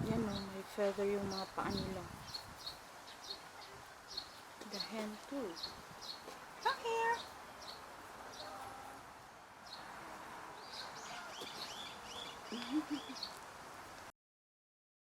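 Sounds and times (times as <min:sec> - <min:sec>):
birds chirping: 0:00.0 - 0:13.4.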